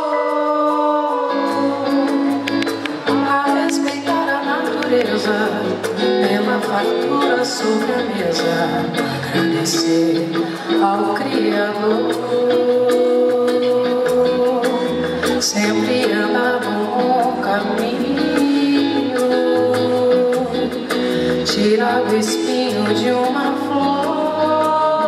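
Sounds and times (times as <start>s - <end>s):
band playing: 0.0s - 25.0s
woman singing into microphone: 0.0s - 25.0s.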